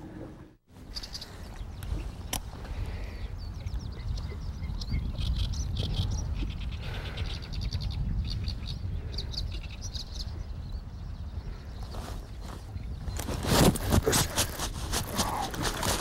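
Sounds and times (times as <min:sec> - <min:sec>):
small birds chirping: 0:00.8 - 0:13.7.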